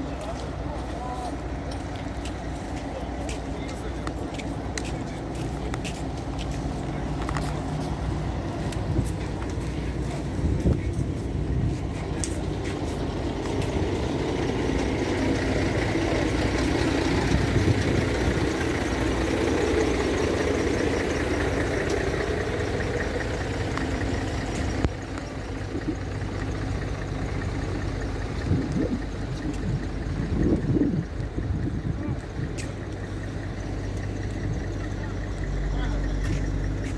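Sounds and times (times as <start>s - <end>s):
vehicle engines passing: 0.0s - 36.9s.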